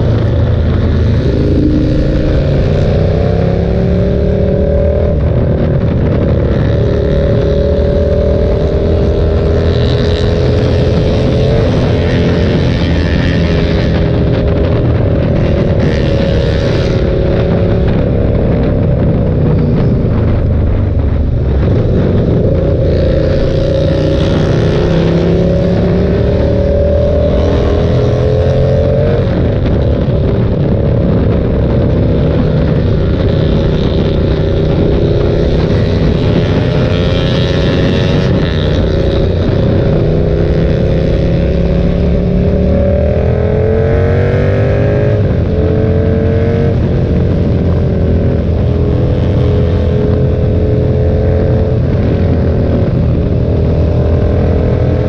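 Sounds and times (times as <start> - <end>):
motorcycle engine at speed: 0.0 - 55.0
wind rumble on microphone: 0.0 - 55.0.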